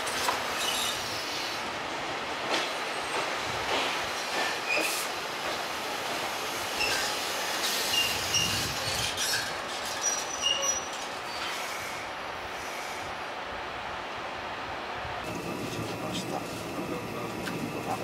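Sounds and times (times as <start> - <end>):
steady train noise: 0.0 - 18.0.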